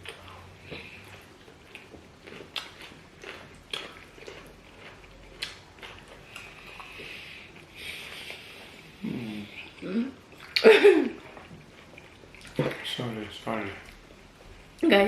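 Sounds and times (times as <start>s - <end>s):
chewing and biting: 0.0s - 9.0s, 9.6s - 13.1s.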